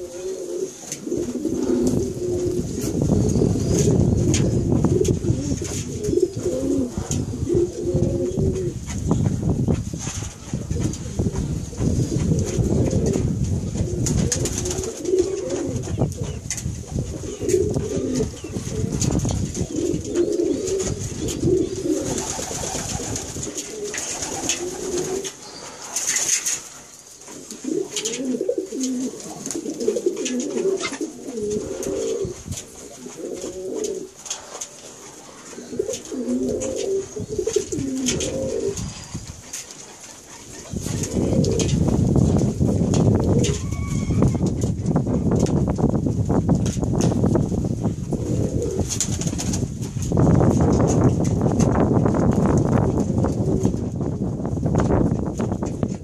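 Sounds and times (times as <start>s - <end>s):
pigeons cooing: 0.0s - 9.5s, 10.3s - 45.3s, 48.1s - 49.1s.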